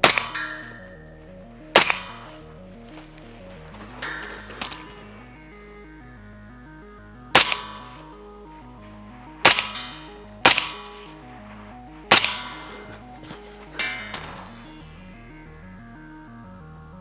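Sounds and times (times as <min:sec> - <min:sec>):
suppressed rifle shots: 0:00.0 - 0:15.5
background music: 0:00.0 - 0:17.0.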